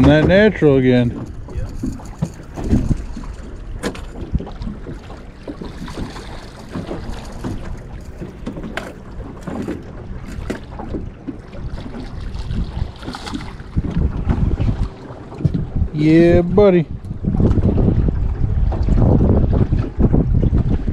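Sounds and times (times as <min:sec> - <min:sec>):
water lapping against metal hull: 0:00.0 - 0:20.9
wind buffeting microphone: 0:00.0 - 0:20.9.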